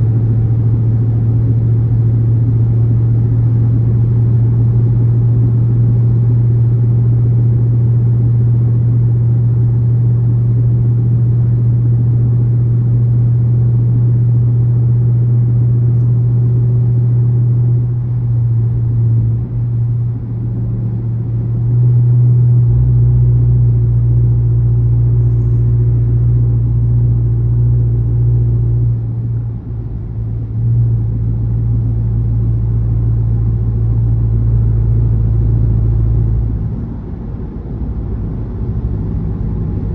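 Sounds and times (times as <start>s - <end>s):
car engine loud low drone: 0.0s - 39.9s.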